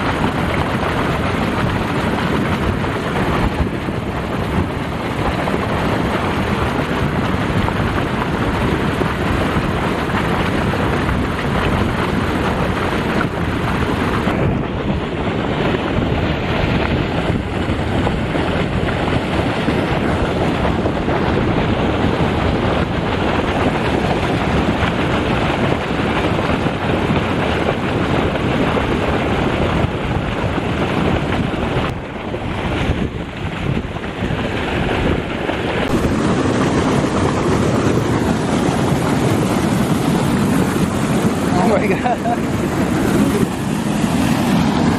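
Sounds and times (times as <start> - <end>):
churning canal water: 0.0 - 44.9
wind buffeting microphone: 0.0 - 44.9.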